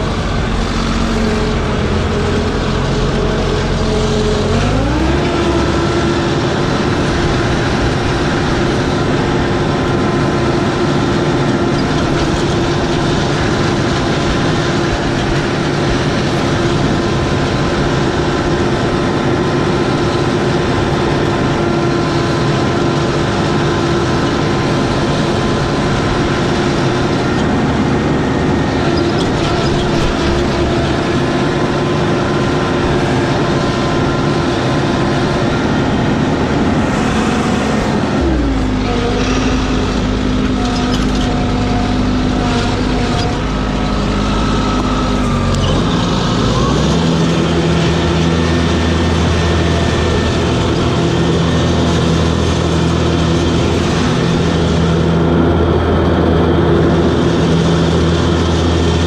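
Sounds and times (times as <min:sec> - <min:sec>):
mower engine running: 0:00.0 - 0:59.0.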